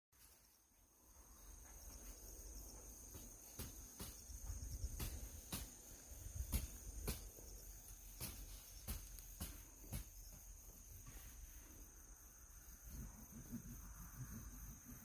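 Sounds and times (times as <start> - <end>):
high-pitched insect trill: 0.2 - 15.0.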